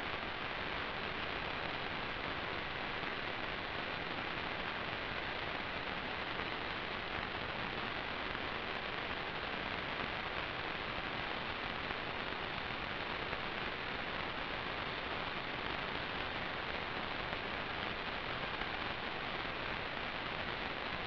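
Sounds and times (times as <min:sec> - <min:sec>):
static hiss: 0:00.0 - 0:21.0.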